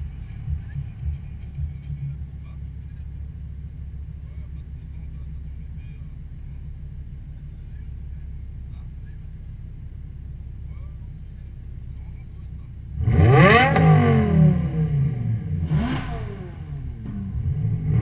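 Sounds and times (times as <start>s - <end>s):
car engines idling: 0.0s - 18.0s.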